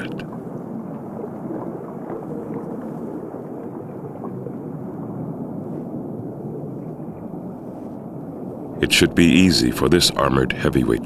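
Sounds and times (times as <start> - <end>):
low rushing water: 0.0 - 11.0.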